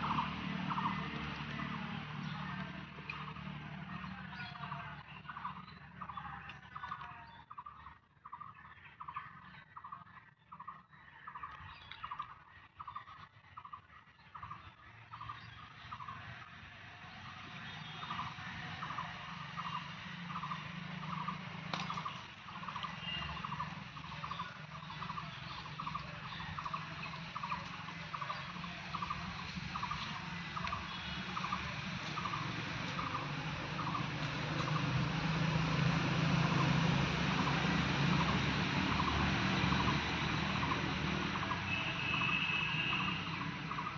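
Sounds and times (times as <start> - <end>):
distant traffic rumble: 0.0 - 43.9.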